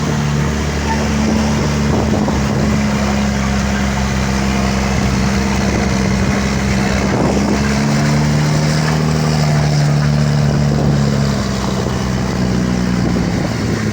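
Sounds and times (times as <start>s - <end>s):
bus diesel engine running: 0.0s - 13.9s.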